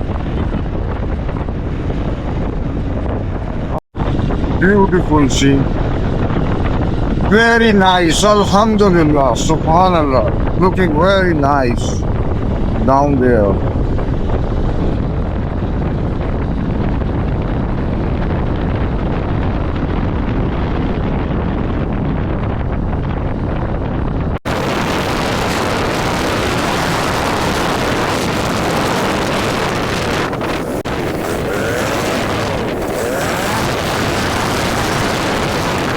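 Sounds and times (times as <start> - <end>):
wind noise on microphone: 0.0 - 35.9.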